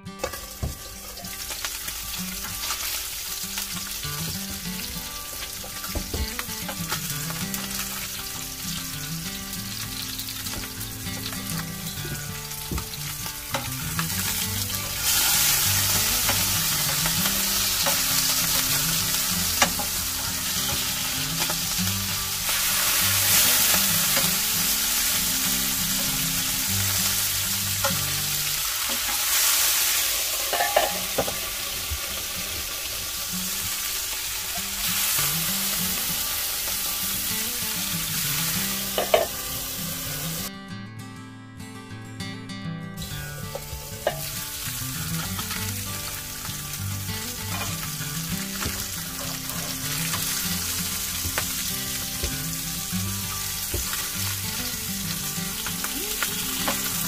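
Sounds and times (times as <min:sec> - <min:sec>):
fish frying in a pan: 0:00.0 - 0:40.5, 0:43.2 - 0:57.0.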